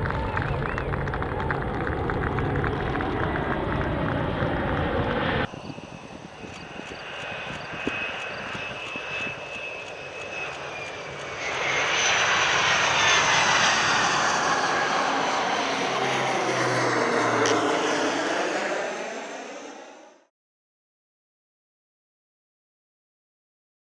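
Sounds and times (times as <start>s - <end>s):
jet engine whining: 0.0s - 20.3s.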